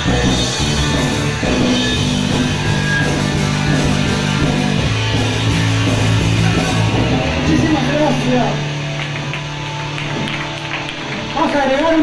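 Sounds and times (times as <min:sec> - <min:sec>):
punk rock band playing live: 0:00.0 - 0:11.9.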